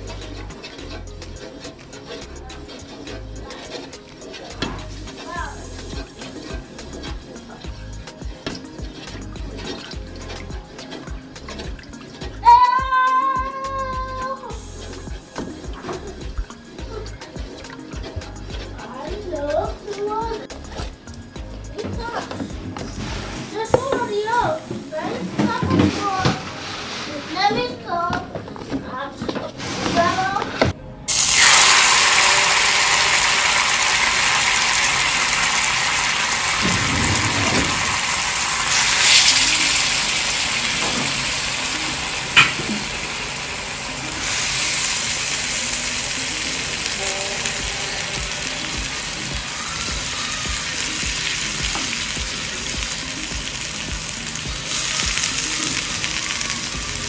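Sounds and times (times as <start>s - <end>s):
soup sizzling in a pot: 0.0s - 27.5s, 31.1s - 57.0s.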